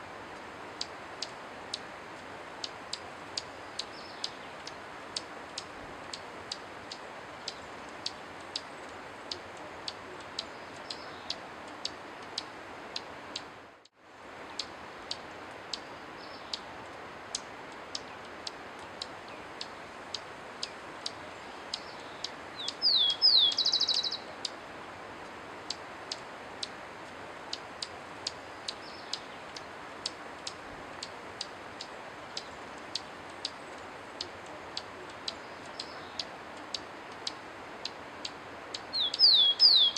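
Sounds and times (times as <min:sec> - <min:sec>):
faint hiss: 0:00.0 - 0:39.9.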